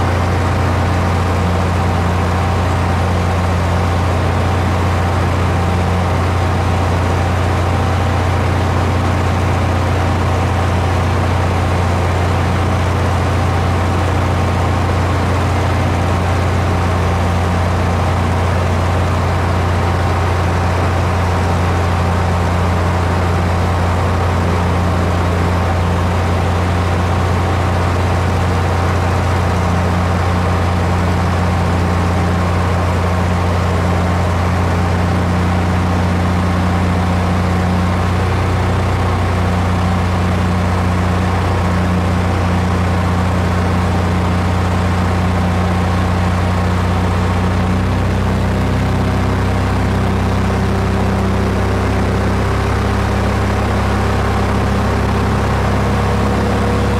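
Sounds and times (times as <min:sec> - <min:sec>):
aircraft engine droning: 0:00.0 - 0:56.9.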